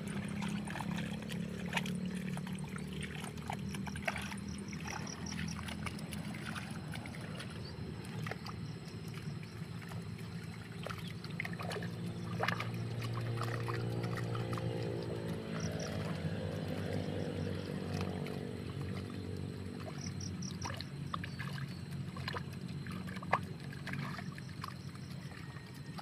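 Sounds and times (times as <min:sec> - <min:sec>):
low steady hum: 0:00.0 - 0:26.0
mud sloshing and squelching: 0:00.0 - 0:26.0.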